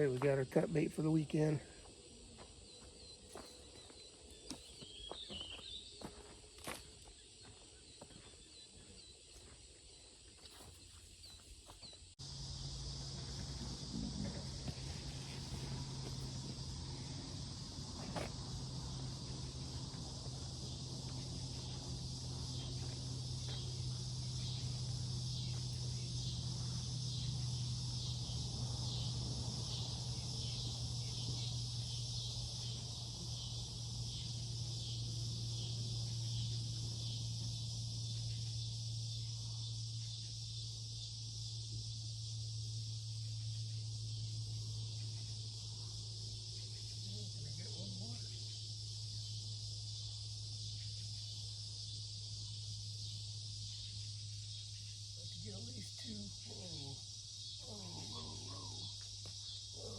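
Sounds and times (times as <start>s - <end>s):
insects chirping: 0.0s - 59.9s
steady low hum: 10.6s - 59.9s.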